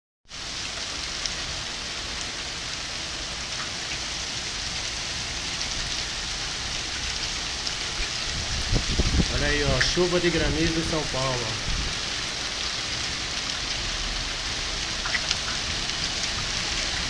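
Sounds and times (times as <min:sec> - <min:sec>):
heavy rain and hail on paving: 0:00.3 - 0:17.0.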